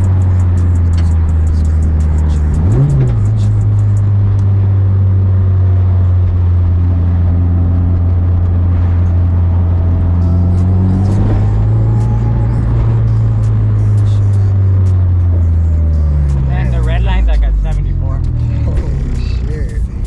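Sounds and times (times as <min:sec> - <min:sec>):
car engine running in cabin: 0:00.0 - 0:20.0.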